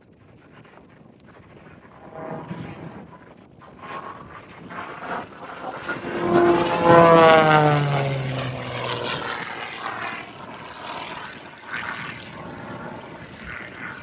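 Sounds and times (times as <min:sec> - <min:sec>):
airplane flying past: 0:00.5 - 0:14.0.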